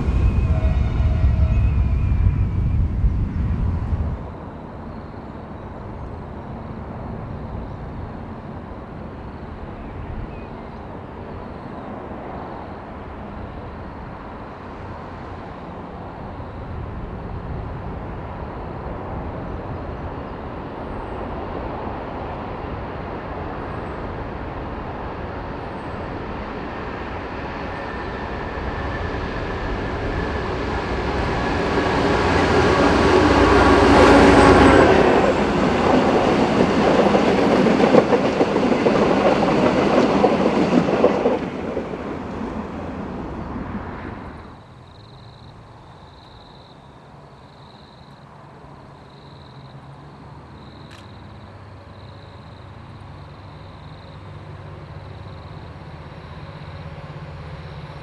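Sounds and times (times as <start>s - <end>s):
train engine and wheels rumbling: 0.0s - 58.0s.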